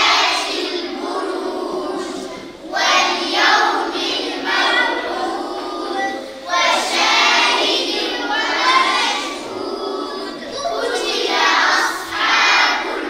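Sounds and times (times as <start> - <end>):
children chanting in unison: 0.0 - 13.0.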